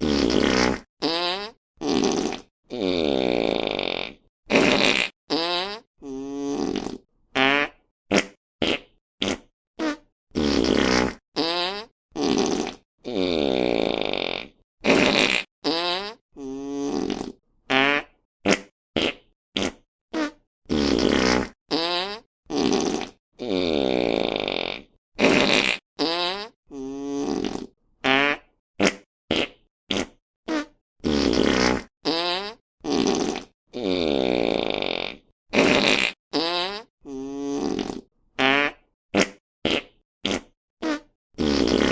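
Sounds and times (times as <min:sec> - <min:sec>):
fart sound effects: 0:00.0 - 0:41.9.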